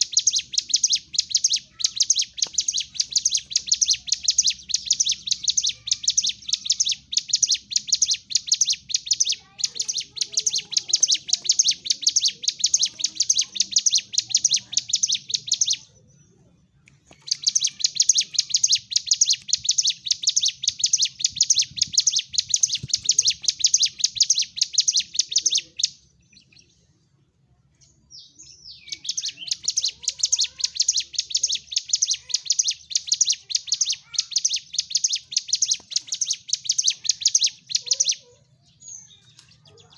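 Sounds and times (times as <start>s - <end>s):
bird singing fast high chirps: 0.0s - 16.1s, 17.0s - 26.8s, 28.1s - 39.9s.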